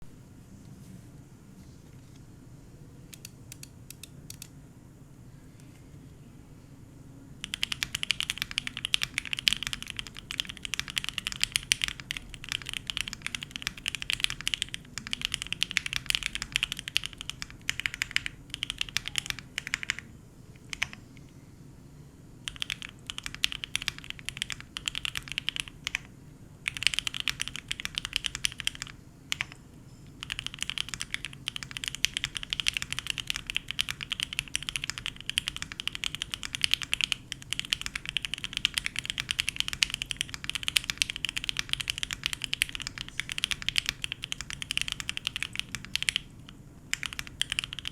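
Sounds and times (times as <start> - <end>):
mechanical keyboard typing: 3.2 - 4.5, 7.4 - 21.0, 22.5 - 26.1, 26.7 - 29.6, 30.2 - 47.9.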